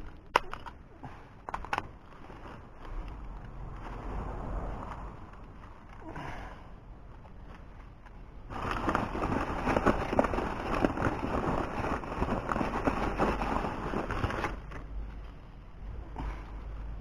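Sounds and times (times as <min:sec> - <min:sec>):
charcoal bag crackling: 0:00.0 - 0:06.3, 0:07.0 - 0:17.0.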